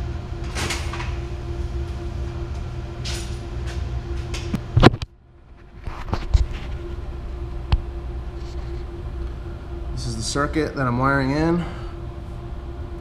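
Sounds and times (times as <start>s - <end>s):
switchgear hum: 0.0s - 13.0s.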